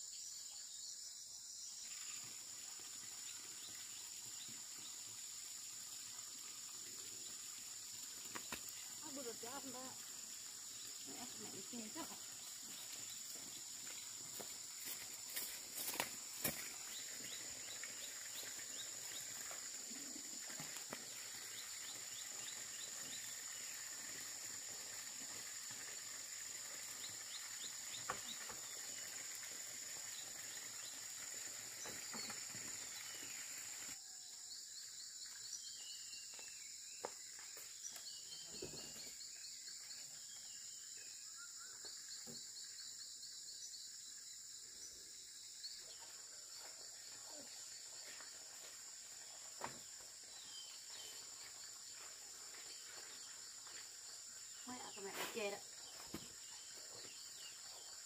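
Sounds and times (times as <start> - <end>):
insect chirping trills: 0.0 - 58.0
insect drone: 0.0 - 58.0.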